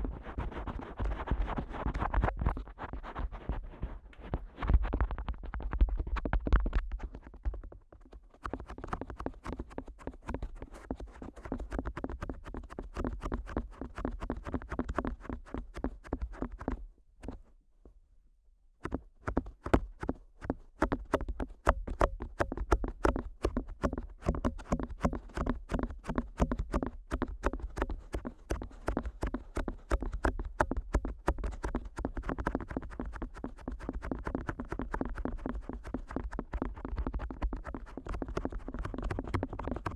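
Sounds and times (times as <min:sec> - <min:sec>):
fingertips tapping on microphone: 0:00.2 - 0:17.5, 0:18.8 - 0:39.9.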